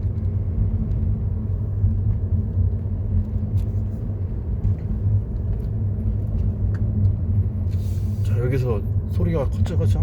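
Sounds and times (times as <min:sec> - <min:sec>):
road and drivetrain rumble: 0:00.0 - 0:10.0.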